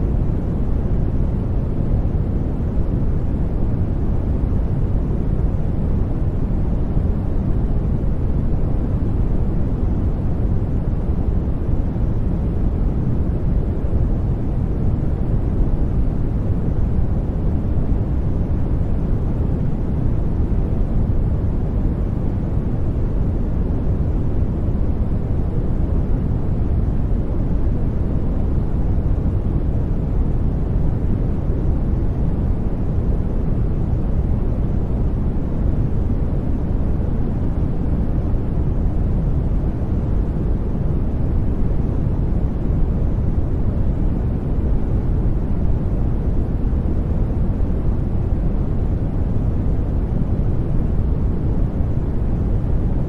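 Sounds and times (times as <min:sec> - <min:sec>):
deep muffled noise rush: 0:00.0 - 0:53.0.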